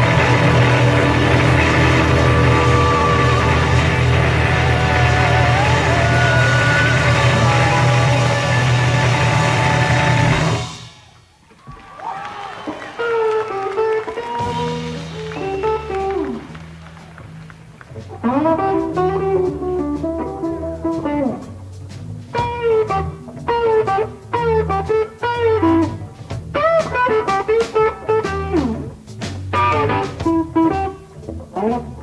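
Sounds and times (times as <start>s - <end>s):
lead guitar bending notes: 0.0s - 10.7s, 13.0s - 32.0s
bass line: 0.0s - 10.8s, 14.2s - 32.0s
drums: 0.0s - 32.0s.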